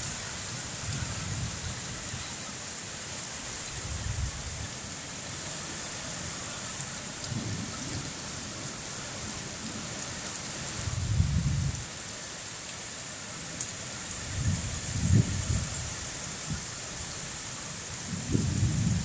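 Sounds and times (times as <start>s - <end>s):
heavy rain on ground and trees: 0.0s - 19.0s.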